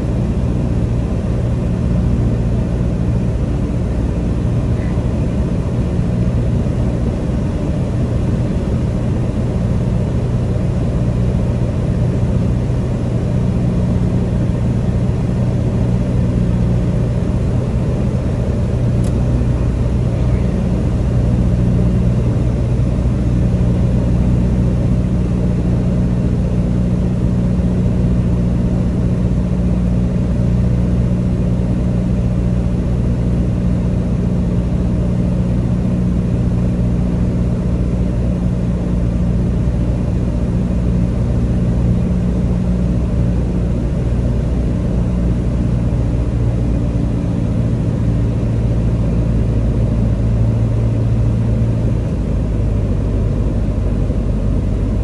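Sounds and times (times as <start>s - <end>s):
light airplane engine droning: 0.0s - 55.0s.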